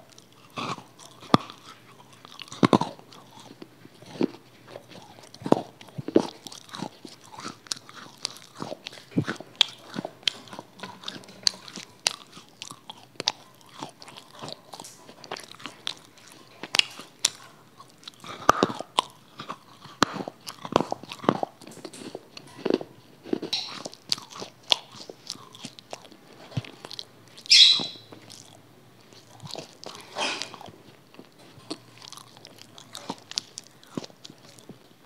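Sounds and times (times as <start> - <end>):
chewing something crunchy: 0.0 - 35.0.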